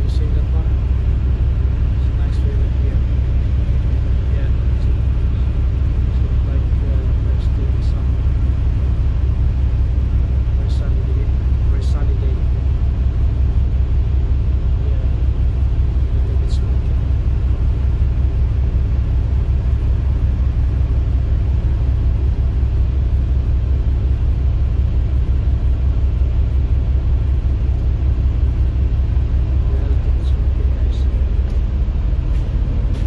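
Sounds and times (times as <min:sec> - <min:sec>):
boat engine idling: 0:00.0 - 0:33.0.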